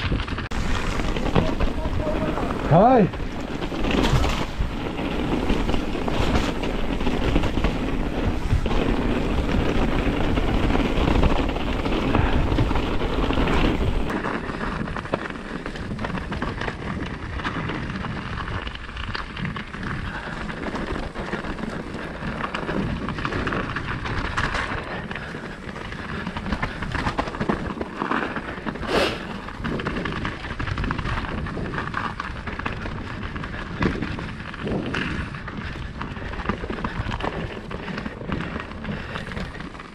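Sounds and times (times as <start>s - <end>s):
bike rattling over bumps: 0.0s - 39.9s
tyres rolling on dirt: 0.0s - 39.9s
wind rushing over microphone: 0.0s - 39.9s.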